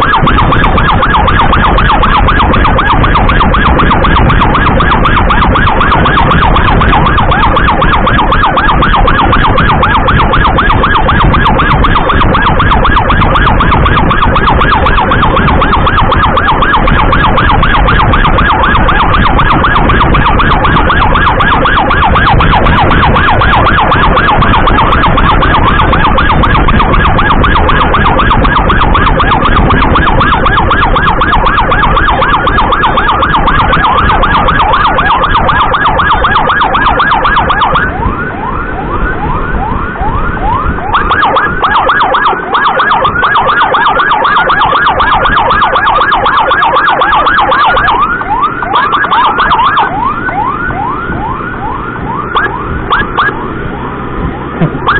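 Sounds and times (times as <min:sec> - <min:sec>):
warbling emergency siren: 0:00.0 - 0:54.9
wind and road noise: 0:00.0 - 0:54.9.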